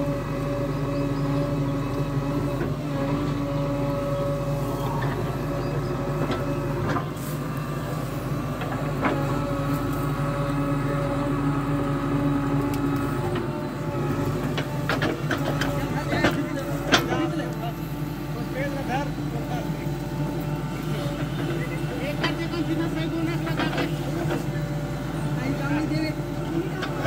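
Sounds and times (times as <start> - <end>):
diesel engine under load: 0.0 - 27.0
hydraulic whine: 0.0 - 27.0.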